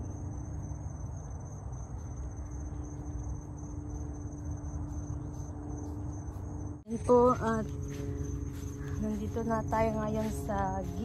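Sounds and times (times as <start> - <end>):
faint steady hum: 0.0 - 11.0
insects trilling: 0.0 - 11.0.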